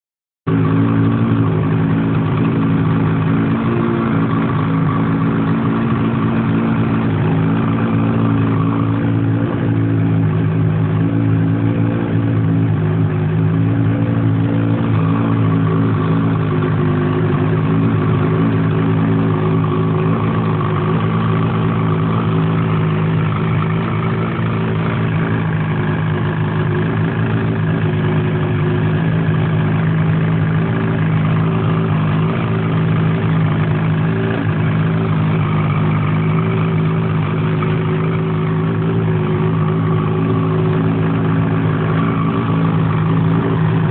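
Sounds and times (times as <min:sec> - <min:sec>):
two-stroke engine idling: 0:00.5 - 0:43.9.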